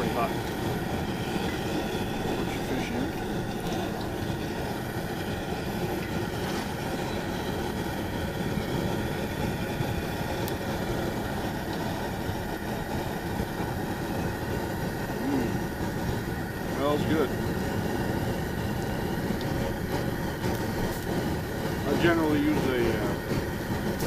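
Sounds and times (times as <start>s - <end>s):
fish frying in hot oil: 0.0s - 24.0s.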